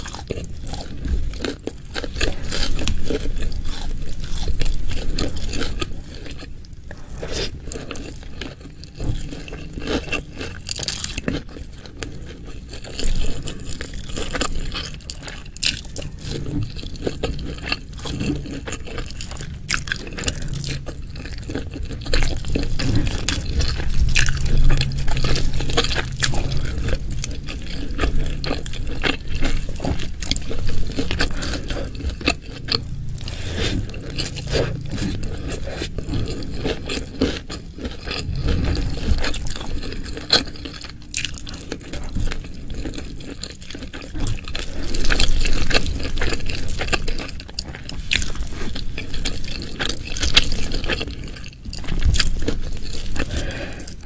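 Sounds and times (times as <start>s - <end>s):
wet chewing and mouth sounds: 0.0s - 54.0s.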